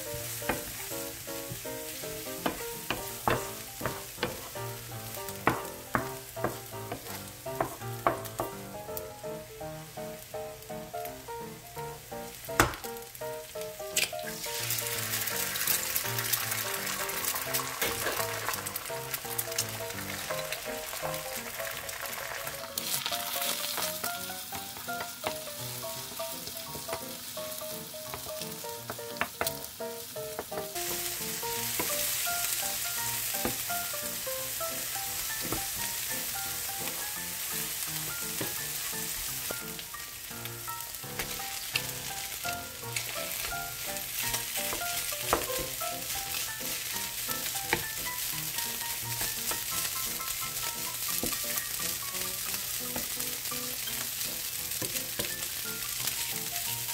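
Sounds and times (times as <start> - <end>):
food sizzling in oil: 0.0 - 56.9.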